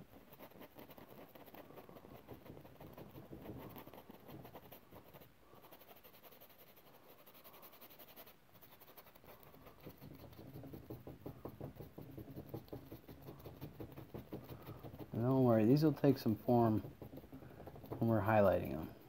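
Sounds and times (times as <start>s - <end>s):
paintbrush scratching on canvas: 0.0s - 19.0s.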